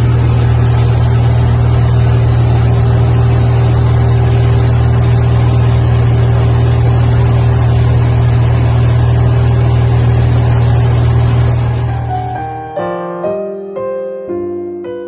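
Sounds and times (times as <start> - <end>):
aircraft cabin drone: 0.0 - 12.8.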